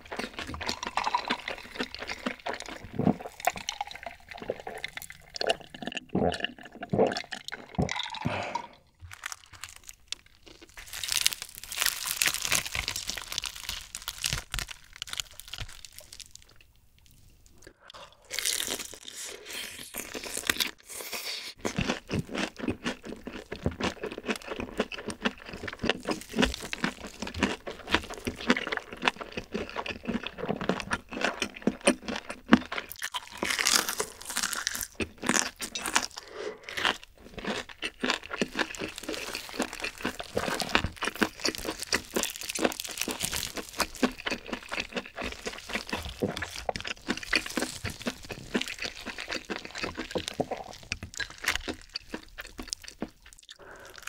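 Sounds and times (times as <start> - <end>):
crunching fried chicken: 0.0 - 5.8, 9.1 - 54.0.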